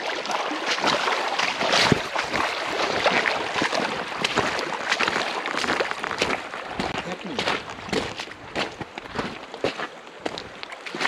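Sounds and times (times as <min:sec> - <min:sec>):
river water splashing and rushing: 0:00.0 - 0:11.0.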